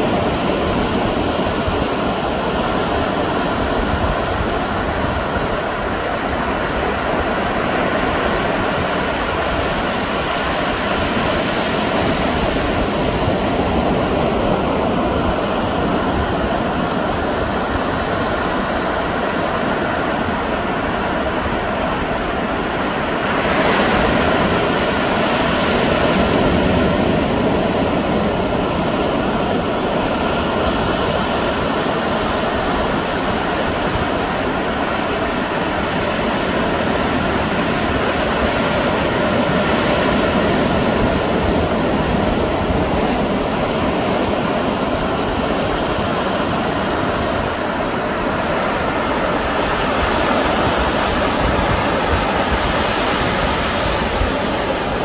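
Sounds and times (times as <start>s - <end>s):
ocean surf rushing on shore: 0.0s - 55.0s.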